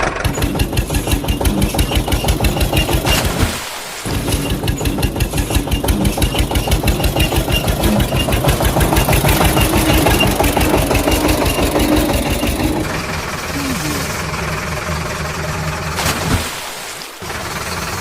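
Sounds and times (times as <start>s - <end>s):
tractor engine chugging: 0.0s - 16.4s, 17.2s - 18.0s.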